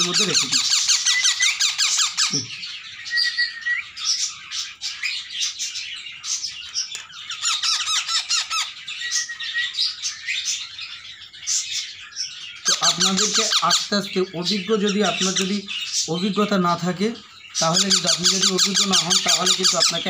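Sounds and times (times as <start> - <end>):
parrot chicks squawking: 0.0 - 20.0.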